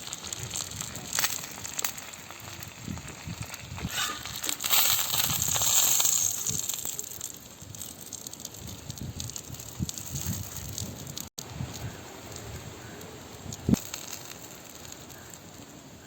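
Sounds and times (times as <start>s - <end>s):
leaf parcel sizzling in oil: 0.0s - 16.0s.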